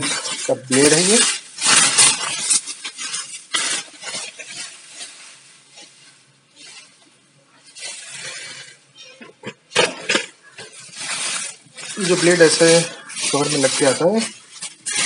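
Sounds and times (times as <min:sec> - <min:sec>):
bubble wrap rustling and crinkling: 0:00.0 - 0:15.0.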